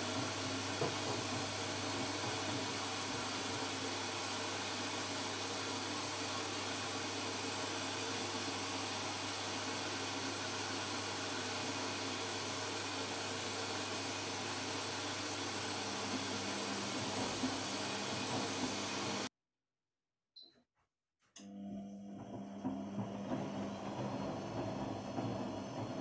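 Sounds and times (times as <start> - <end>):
washing machine humming: 0.0 - 19.3, 21.4 - 26.0.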